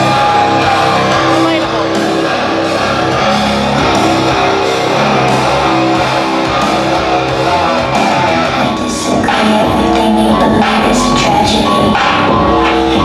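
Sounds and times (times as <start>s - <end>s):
loud guitar-driven music: 0.0s - 13.0s.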